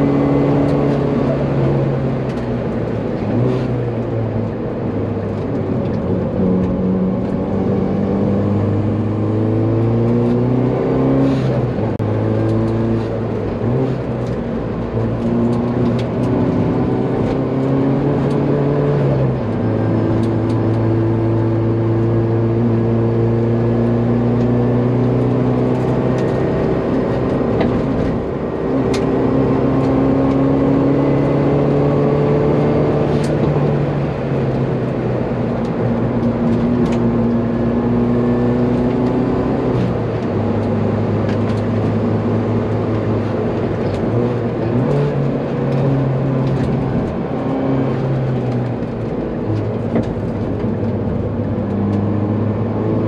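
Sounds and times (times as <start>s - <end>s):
car engine revving under load: 0.0s - 53.0s.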